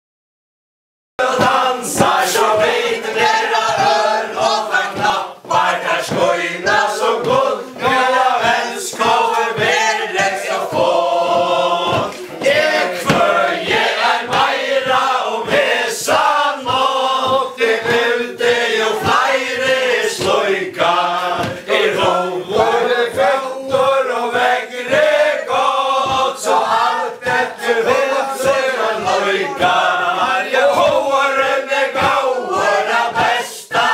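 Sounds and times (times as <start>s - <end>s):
men singing in unison: 1.2s - 33.9s
stamping and clapping beat: 1.2s - 33.9s.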